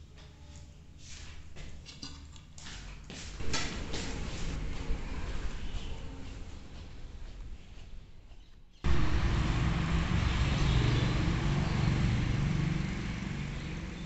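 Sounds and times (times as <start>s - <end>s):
outdoor rumble with hiss: 2.6s - 14.0s.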